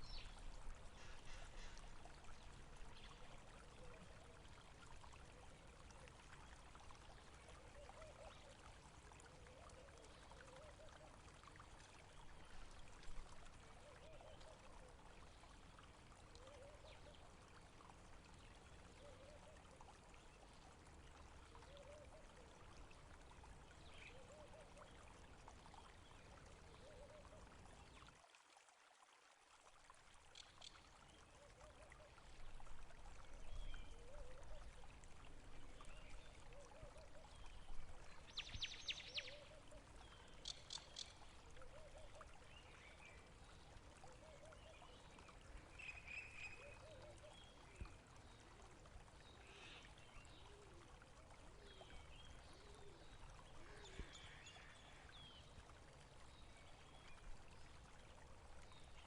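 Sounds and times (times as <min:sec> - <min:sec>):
faint trickle of water: 0:00.0 - 0:59.0.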